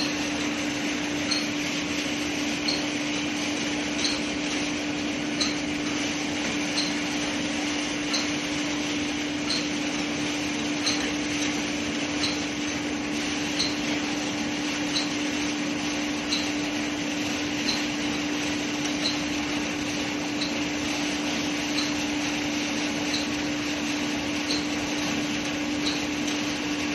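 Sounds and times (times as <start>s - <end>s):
steady machine hum: 0.0s - 26.9s.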